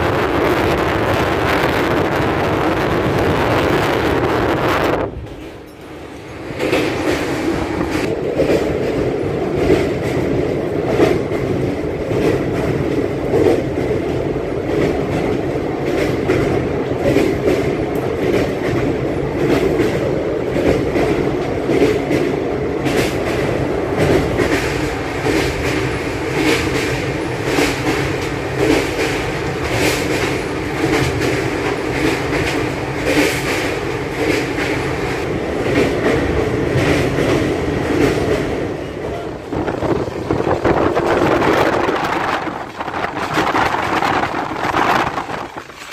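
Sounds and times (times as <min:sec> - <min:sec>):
train rumble: 0:00.0 - 0:45.9.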